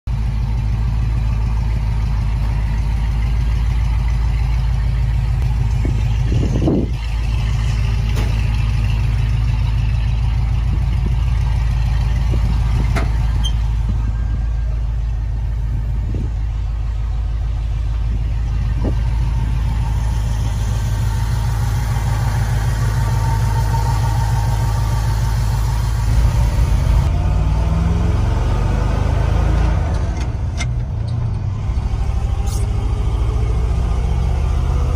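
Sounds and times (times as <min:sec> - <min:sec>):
engine pulling under load: 0:00.1 - 0:34.9
truck engine idling: 0:00.1 - 0:34.9.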